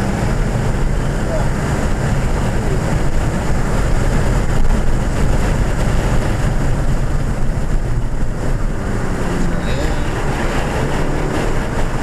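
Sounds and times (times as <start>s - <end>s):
car engine running: 0.0s - 12.0s
road and wind noise: 0.0s - 12.0s.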